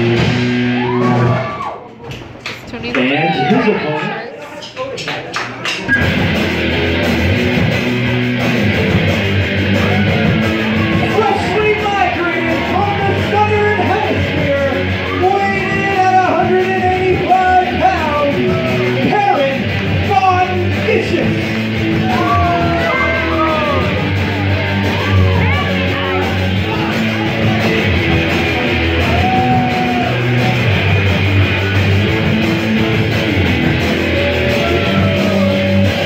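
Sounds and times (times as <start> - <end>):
rock music with vocals: 6.0 - 36.0.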